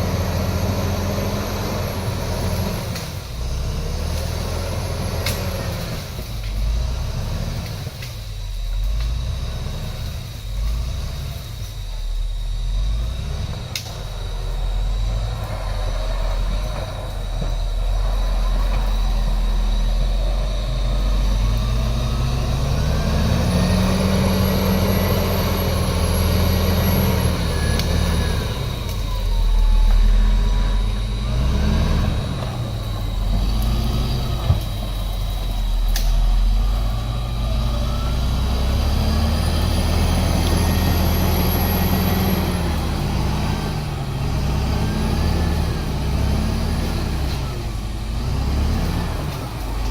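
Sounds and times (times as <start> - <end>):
heavy diesel engine revving: 0.0 - 49.9
steady high whine: 7.8 - 48.3.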